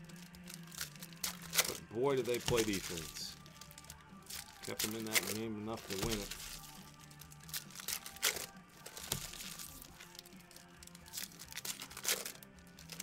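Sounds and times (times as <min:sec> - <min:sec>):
card pack wrappers crinkling and tearing: 0:00.0 - 0:13.0.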